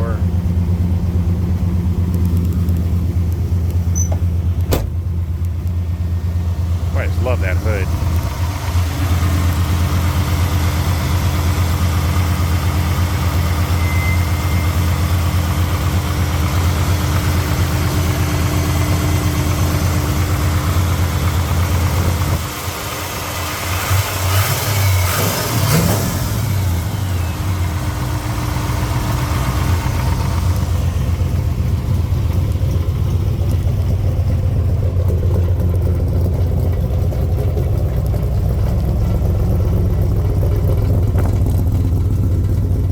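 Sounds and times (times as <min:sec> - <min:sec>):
vee eight engine idling: 0:00.0 - 0:23.8, 0:26.3 - 0:42.9.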